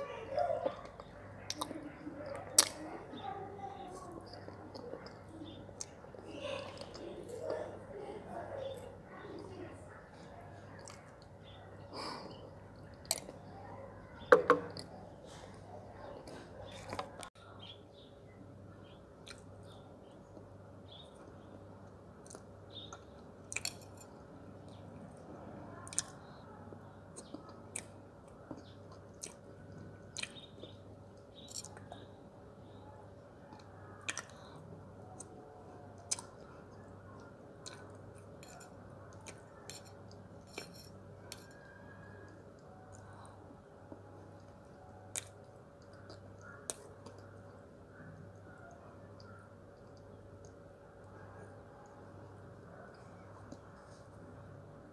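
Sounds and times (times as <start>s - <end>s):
mouth sounds of eating: 0.0s - 17.8s, 18.8s - 54.6s
quiet wet chewing: 0.3s - 18.1s, 18.8s - 54.9s.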